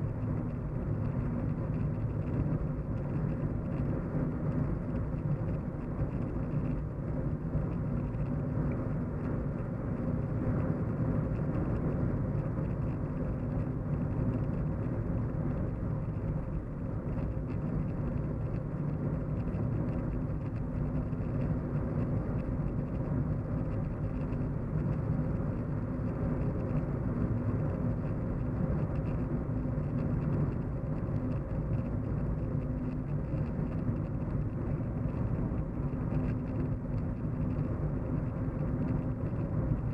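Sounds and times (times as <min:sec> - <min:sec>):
faint steady tone: 0:00.0 - 0:39.9.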